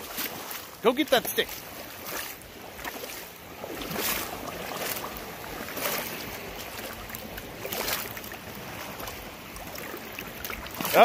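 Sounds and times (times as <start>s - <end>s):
lake waves lapping at shore: 0.0s - 11.0s.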